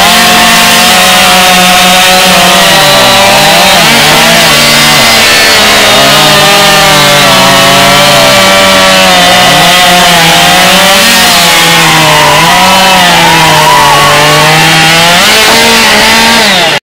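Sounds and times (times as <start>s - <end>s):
chainsaw cutting through wood: 0.0s - 16.8s.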